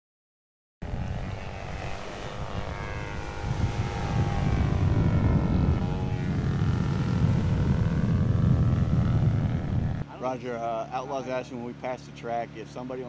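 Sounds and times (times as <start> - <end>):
propeller drone engine buzzing: 0.8 - 13.0.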